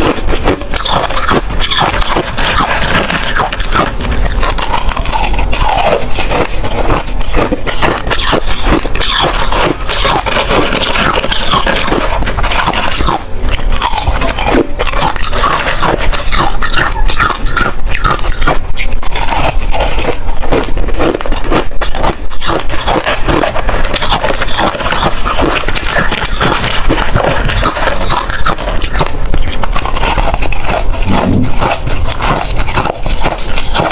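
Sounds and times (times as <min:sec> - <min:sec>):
ice being chewed: 0:00.0 - 0:33.9.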